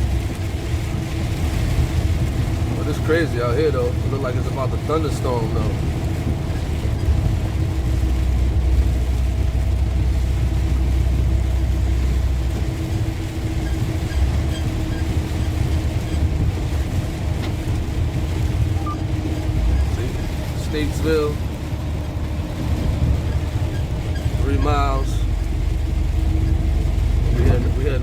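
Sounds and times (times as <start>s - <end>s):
truck engine and tyres rumbling: 0.0s - 28.0s.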